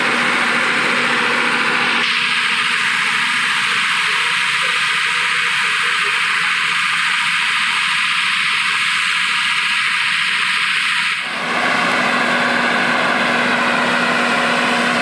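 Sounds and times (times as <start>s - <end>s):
speaker hissing test noise: 2.0s - 15.0s.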